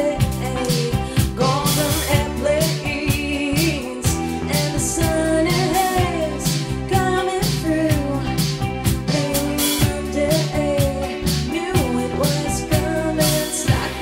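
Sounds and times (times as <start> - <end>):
bass guitar: 0.0 - 14.0
drum kit: 0.0 - 14.0
electric guitar: 0.0 - 14.0
woman singing: 0.0 - 14.0.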